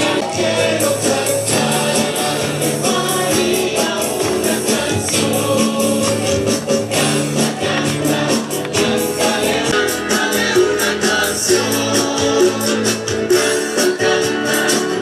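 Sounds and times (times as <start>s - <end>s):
choir singing: 0.0s - 15.0s
guitars and percussion: 0.0s - 15.0s.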